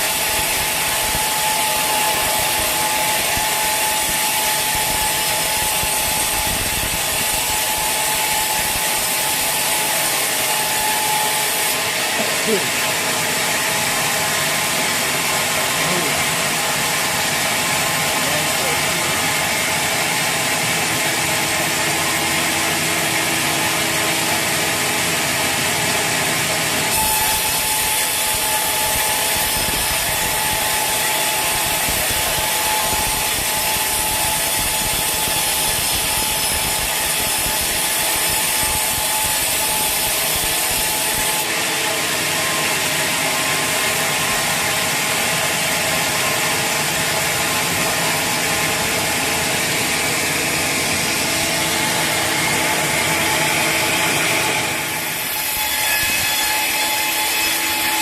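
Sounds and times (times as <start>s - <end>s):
saw cutting through log: 0.0s - 58.0s.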